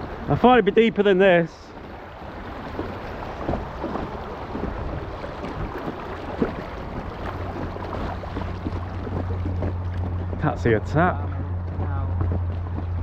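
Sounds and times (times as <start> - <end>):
river water splashing: 0.0 - 13.0
wind rumble on microphone: 1.7 - 13.0.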